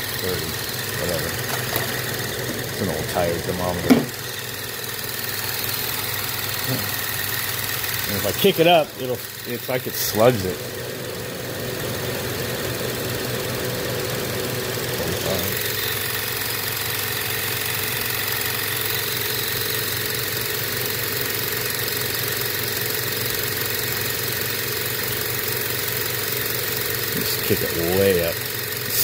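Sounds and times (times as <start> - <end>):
compressor humming: 0.0 - 29.0.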